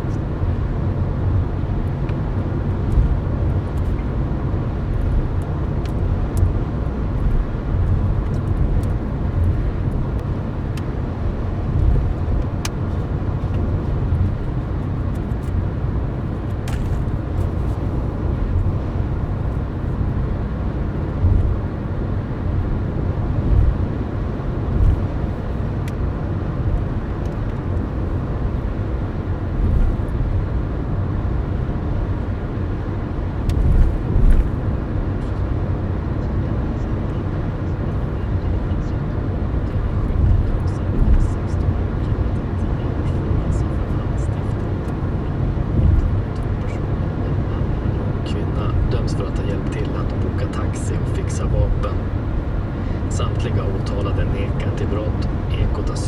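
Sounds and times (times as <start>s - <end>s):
car engine drone: 0.0s - 56.0s
road and tyre noise: 0.0s - 56.0s.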